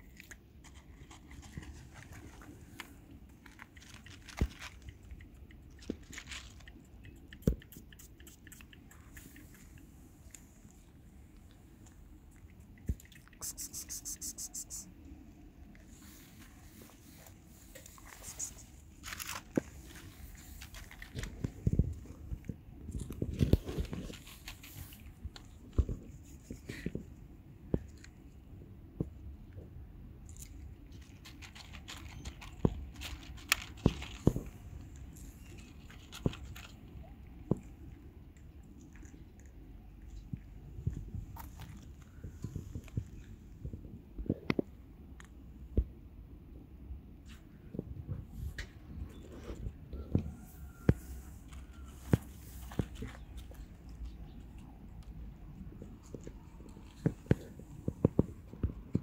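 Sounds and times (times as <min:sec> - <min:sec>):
cat crunching dry kibble: 0:00.0 - 0:29.3, 0:30.2 - 0:43.5, 0:51.5 - 0:59.0.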